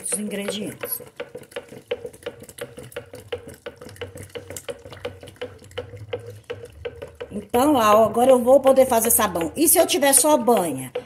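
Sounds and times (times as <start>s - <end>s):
utensil stirring in plastic jug: 0.0s - 11.0s.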